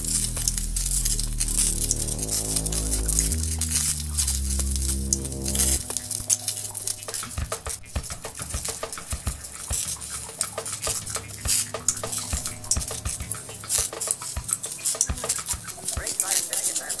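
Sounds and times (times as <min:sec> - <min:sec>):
faint low hum: 0:00.0 - 0:17.0
water droplets sizzling on hot metal: 0:00.0 - 0:17.0.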